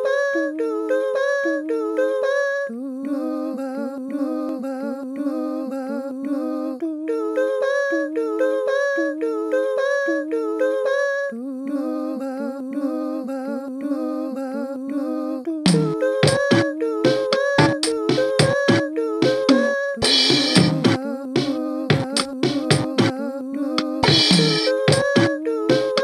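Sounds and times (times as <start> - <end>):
a cappella hummed vocals: 0.0 - 26.0.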